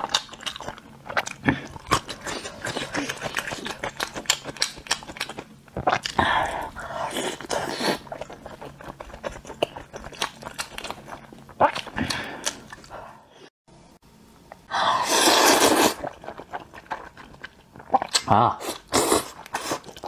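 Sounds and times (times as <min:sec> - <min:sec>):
person chewing with wet smacking: 0:00.0 - 0:06.6, 0:07.3 - 0:13.0, 0:16.0 - 0:20.0.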